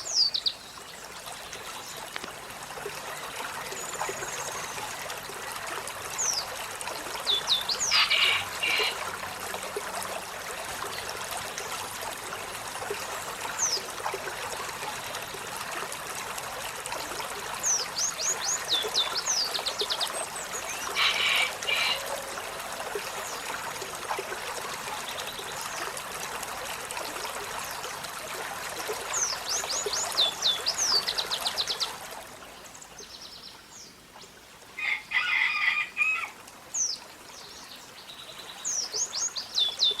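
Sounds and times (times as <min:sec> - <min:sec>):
trickle of flowing water: 0:00.0 - 0:40.0.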